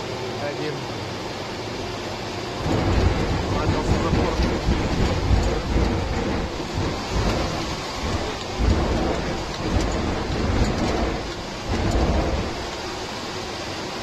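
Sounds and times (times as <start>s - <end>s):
seawater rushing against hull: 0.0s - 14.0s.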